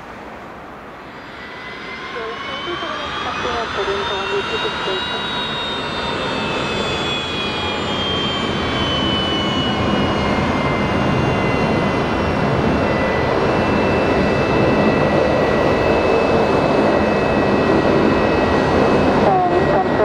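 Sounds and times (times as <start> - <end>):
jet engines whining on runway: 0.0 - 20.0.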